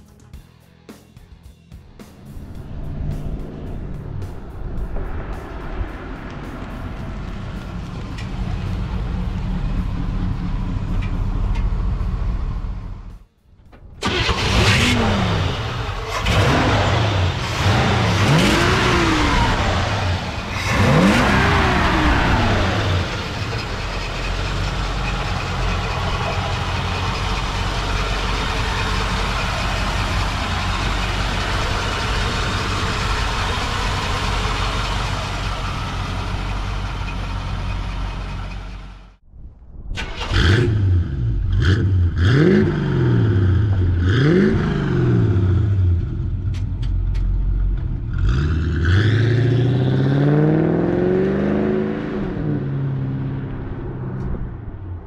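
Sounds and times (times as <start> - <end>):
car engine idling: 1.8 - 39.2, 40.0 - 49.0
car engine revving: 1.9 - 13.3, 14.0 - 39.2, 40.0 - 55.0.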